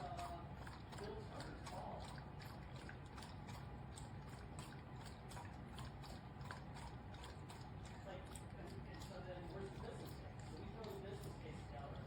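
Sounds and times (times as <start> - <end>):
water dripping ticks: 0.0 - 12.0
water fountain pump hum: 0.0 - 12.0.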